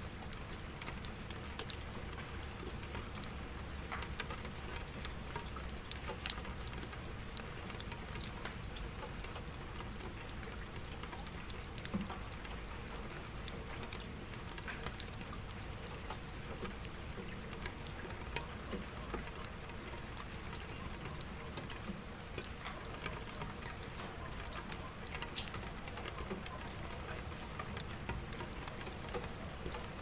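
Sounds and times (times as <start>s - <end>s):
steady rain falling: 0.0s - 30.0s
water drops ticking: 0.3s - 30.0s.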